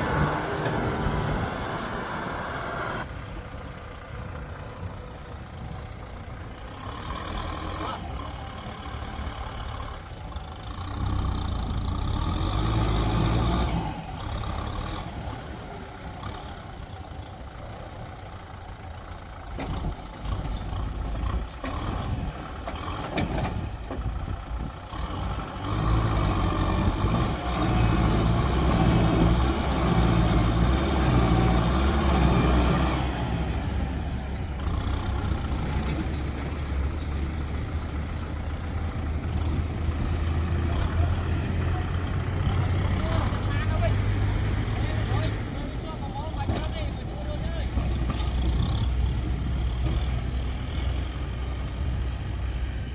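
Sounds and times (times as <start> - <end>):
heavy diesel engines revving: 0.0 - 52.9.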